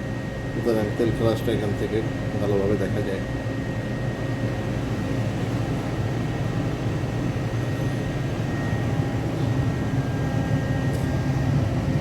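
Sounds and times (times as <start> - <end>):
machinery and ventilation hum: 0.0 - 12.0
thin steady whine: 0.0 - 12.0.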